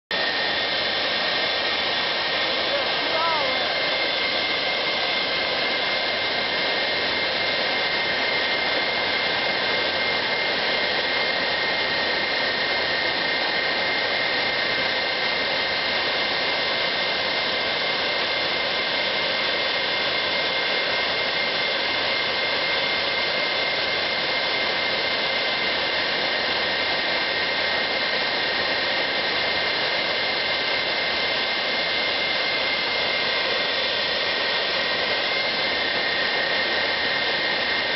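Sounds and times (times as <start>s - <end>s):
jet engine running: 0.1s - 37.9s.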